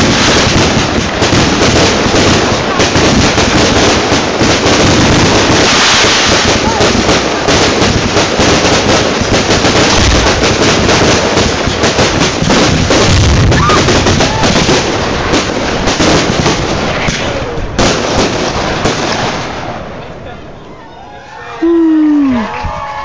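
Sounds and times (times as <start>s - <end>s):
fireworks crackling and popping: 0.0s - 20.2s.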